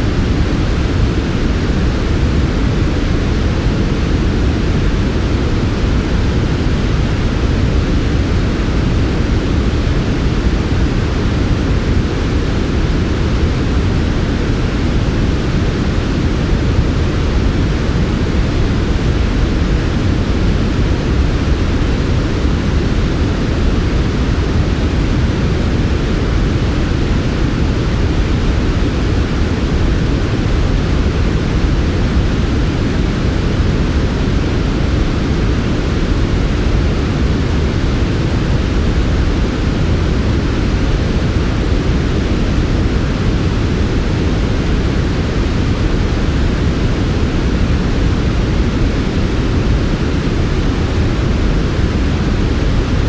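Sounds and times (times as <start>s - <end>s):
low rumbling white noise: 0.0s - 53.0s.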